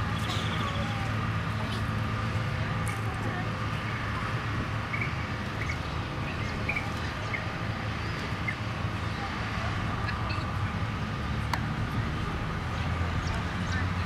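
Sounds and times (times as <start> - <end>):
park ambience: 0.0 - 14.0.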